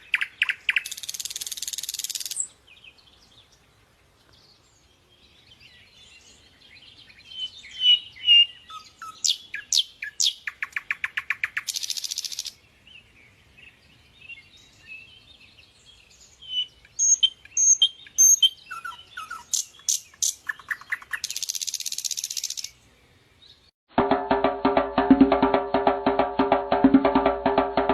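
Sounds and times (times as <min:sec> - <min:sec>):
songbird singing with trill: 0:00.0 - 0:23.7.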